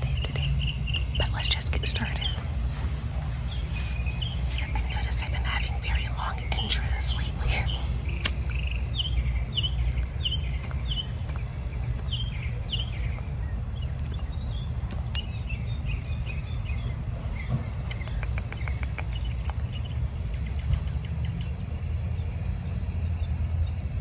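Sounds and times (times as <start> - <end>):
songbirds chirping: 0.0 - 22.3
steady low rumble: 0.0 - 24.0.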